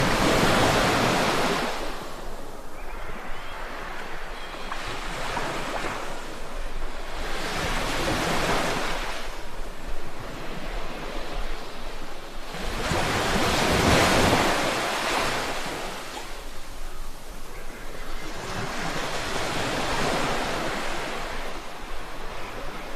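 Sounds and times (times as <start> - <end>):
waves breaking on beach: 0.0 - 22.9
wind: 0.0 - 22.9.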